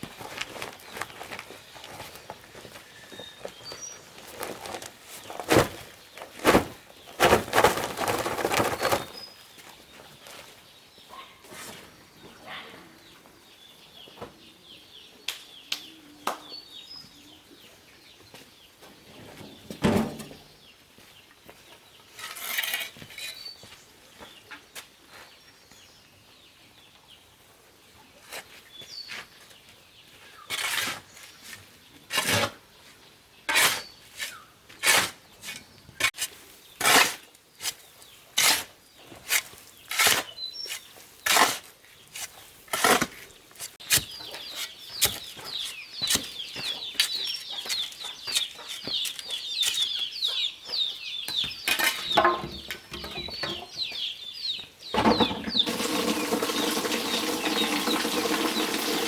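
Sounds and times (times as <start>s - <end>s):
birds chirping: 0.0s - 27.4s, 35.3s - 59.0s.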